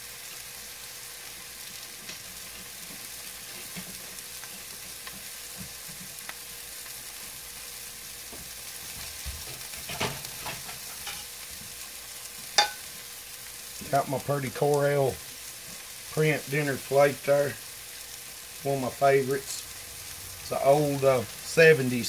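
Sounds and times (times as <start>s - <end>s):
steak sizzling in butter: 0.0s - 22.0s.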